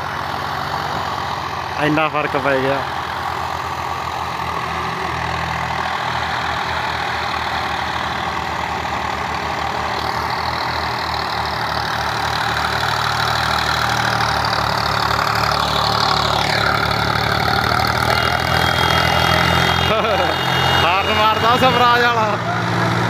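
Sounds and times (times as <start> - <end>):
diesel tractor engines running: 0.0 - 23.0.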